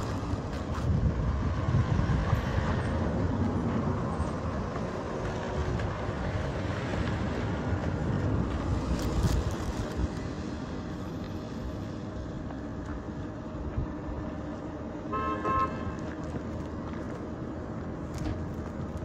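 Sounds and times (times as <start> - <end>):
roadside low rumble: 0.0 - 19.0.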